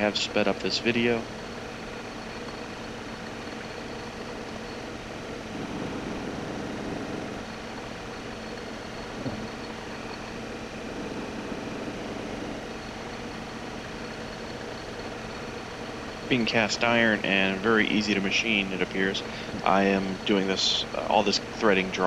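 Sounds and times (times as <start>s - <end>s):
metal lathe humming: 0.0s - 22.0s.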